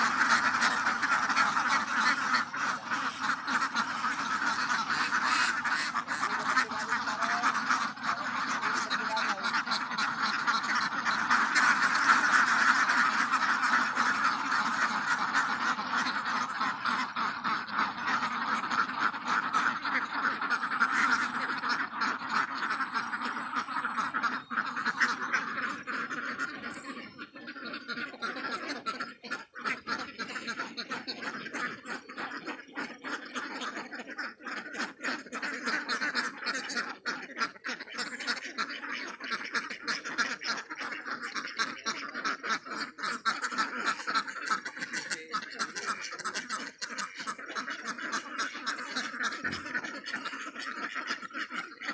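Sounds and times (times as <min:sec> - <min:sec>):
ducks quacking: 0:00.0 - 0:51.9.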